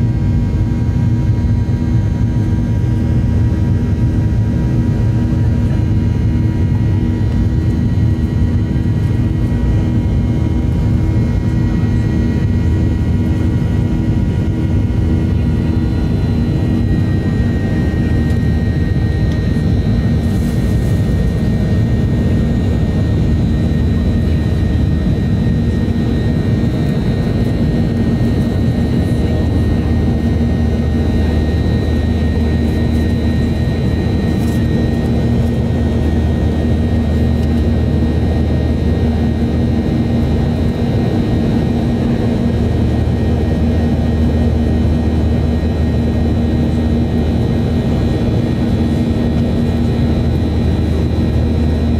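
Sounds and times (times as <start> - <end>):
airflow rumble: 0.0 - 51.9
jet engines running: 0.0 - 51.9.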